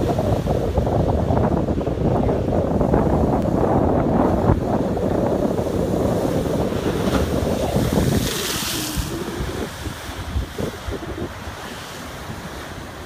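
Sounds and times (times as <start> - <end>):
waves crashing on shore: 0.0 - 13.0
wind buffeting microphone: 0.0 - 13.0.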